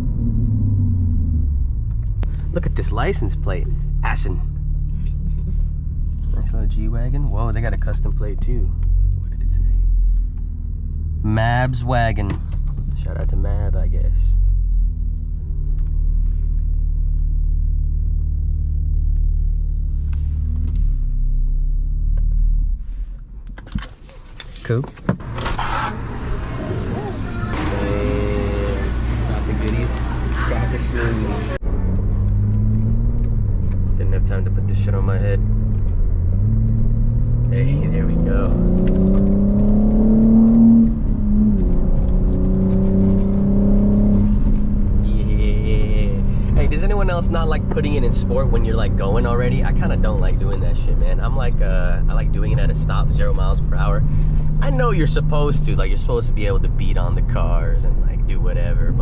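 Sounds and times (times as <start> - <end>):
car exhaust drone: 0.0 - 23.1, 25.2 - 59.0.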